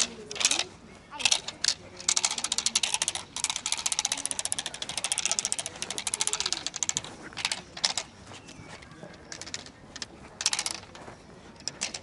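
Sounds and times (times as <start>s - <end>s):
bamboo stick rattling: 0.0s - 12.0s.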